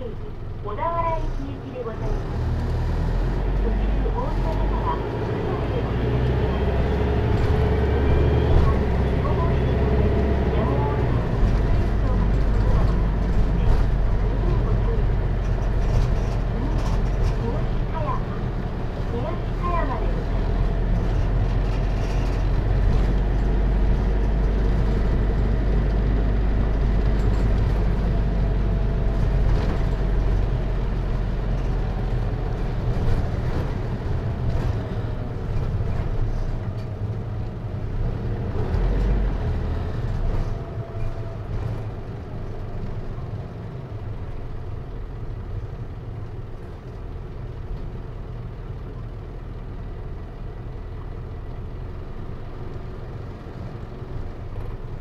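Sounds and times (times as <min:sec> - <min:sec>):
diesel engine from inside cabin: 0:00.0 - 0:55.0.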